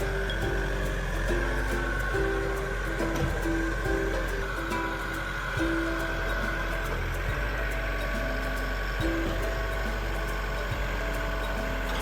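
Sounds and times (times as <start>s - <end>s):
background music: 0.0s - 12.0s
heavy machine engine rumbling: 0.0s - 12.0s.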